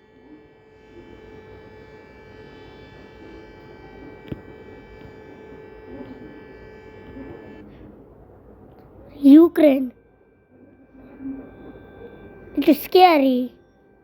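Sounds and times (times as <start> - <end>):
electronic buzzing alarm tone: 0.0 - 7.7, 9.5 - 14.0.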